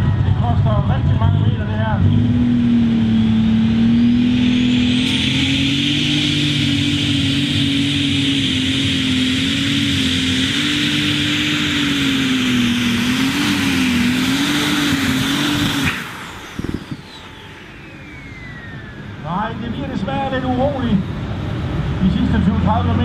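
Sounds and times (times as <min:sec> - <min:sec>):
diesel engine running flat out: 0:00.0 - 0:23.0
turbo spooling down whine: 0:00.0 - 0:23.0.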